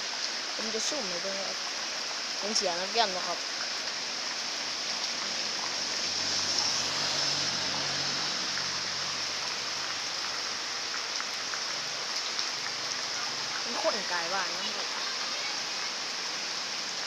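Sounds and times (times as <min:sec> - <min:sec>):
rain falling and splashing: 0:00.0 - 0:17.0.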